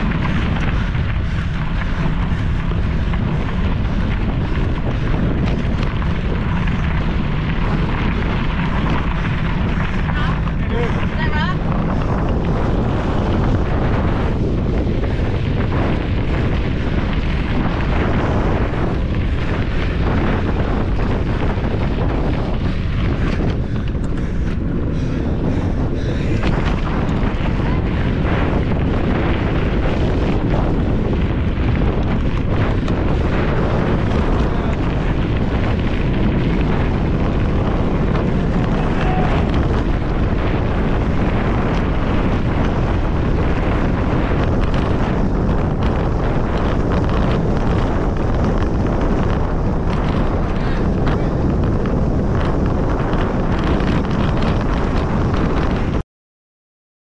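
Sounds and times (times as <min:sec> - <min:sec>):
bike rattling over rough ground: 0:00.0 - 0:56.0
wind buffeting microphone: 0:00.0 - 0:56.0.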